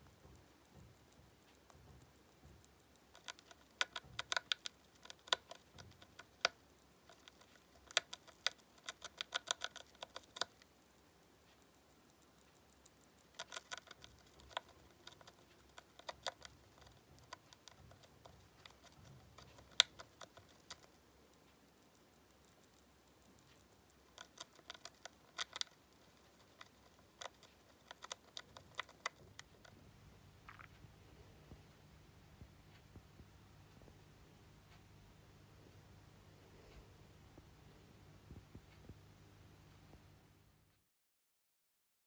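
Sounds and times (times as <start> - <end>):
hamster gnawing: 0.0 - 40.3.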